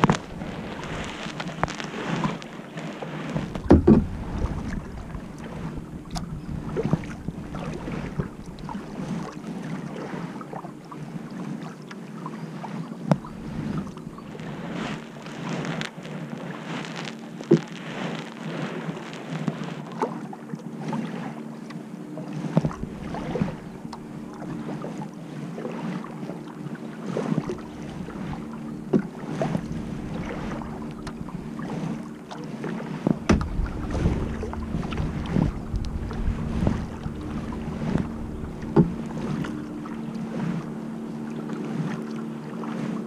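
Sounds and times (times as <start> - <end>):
steady low hum: 0.0 - 12.3, 12.9 - 18.3, 21.6 - 25.6, 26.5 - 43.0
paddle splashing in water: 0.0 - 43.0
wind rumble on microphone: 0.0 - 43.0.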